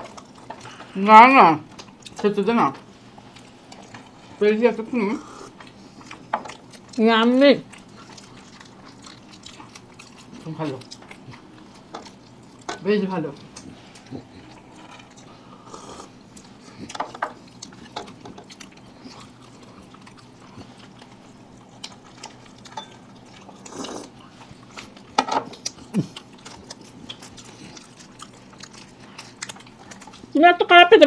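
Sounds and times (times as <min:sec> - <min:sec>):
people biting and chewing: 0:00.0 - 0:01.0, 0:05.0 - 0:07.0, 0:07.6 - 0:12.8, 0:13.4 - 0:30.4.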